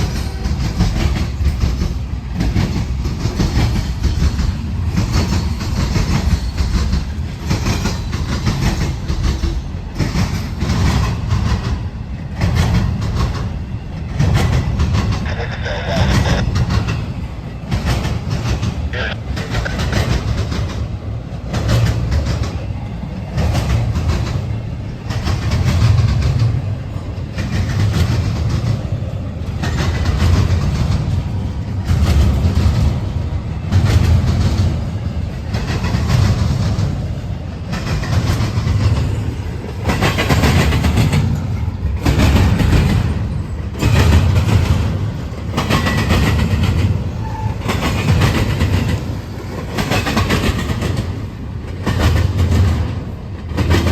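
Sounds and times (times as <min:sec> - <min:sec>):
freight train cars rumbling past: 0:00.0 - 0:53.9
train wheels clicking over rail joints: 0:00.0 - 0:53.9.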